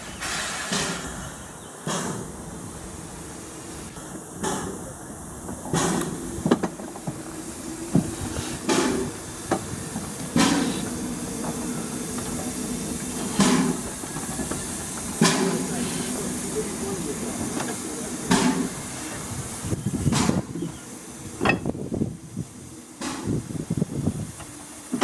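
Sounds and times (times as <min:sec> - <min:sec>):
steam hissing: 0:00.0 - 0:25.0
steam locomotive exhaust chuff: 0:00.0 - 0:25.0.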